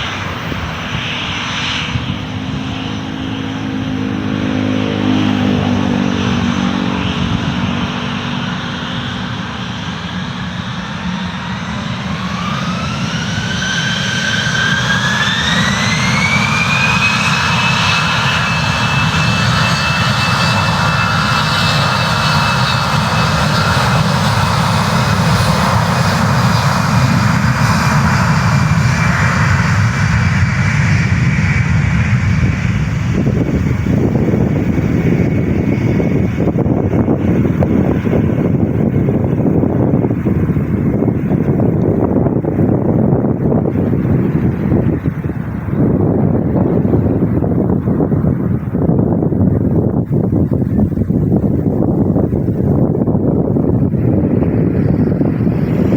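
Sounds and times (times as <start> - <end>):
jet engines spooling up: 0.0 - 55.9.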